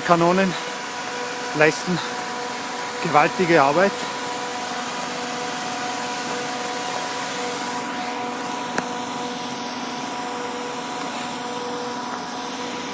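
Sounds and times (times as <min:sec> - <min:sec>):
machine hum: 0:00.0 - 0:12.9
snow cannon spraying hiss: 0:00.1 - 0:12.9.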